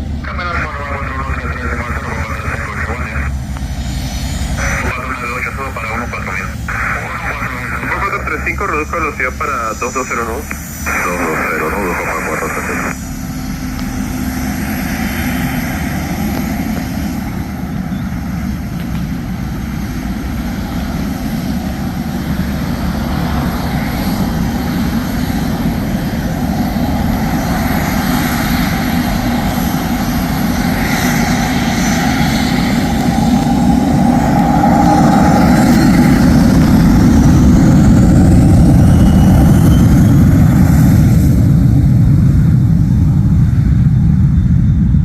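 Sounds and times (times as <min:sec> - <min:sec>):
jet engines at high power: 0:00.0 - 0:45.0.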